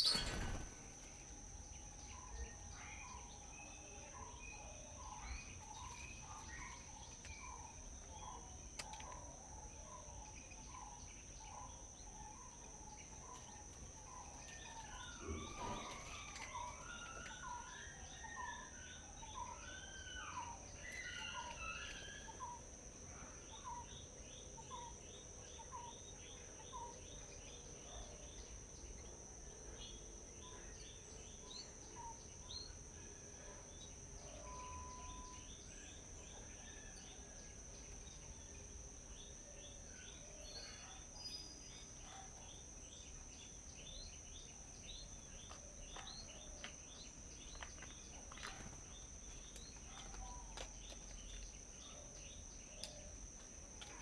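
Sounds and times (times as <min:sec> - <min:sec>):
forest birds chirping and singing: 0:00.0 - 0:54.0.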